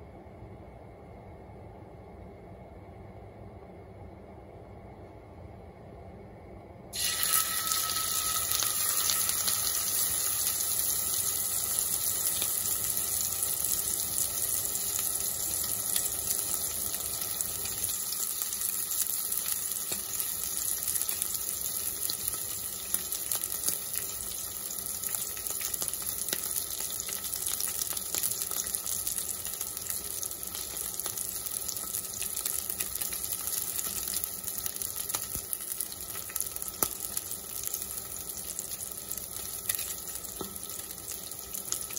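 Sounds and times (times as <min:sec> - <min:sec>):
fish sizzling in hot oil: 0:06.9 - 0:41.9.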